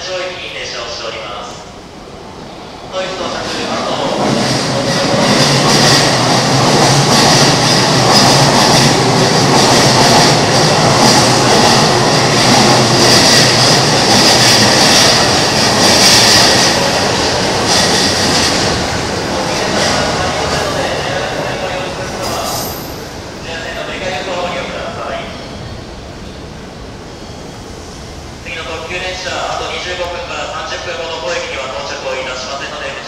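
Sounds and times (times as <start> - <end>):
electric train rumbling past: 0.0 - 33.0.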